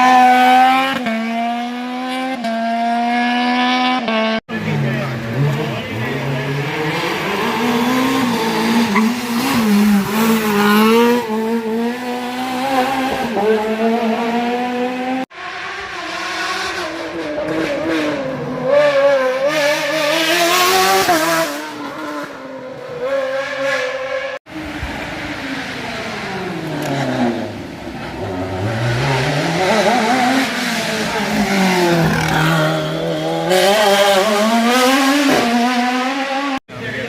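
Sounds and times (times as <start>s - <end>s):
race car engine revving: 0.0s - 36.6s.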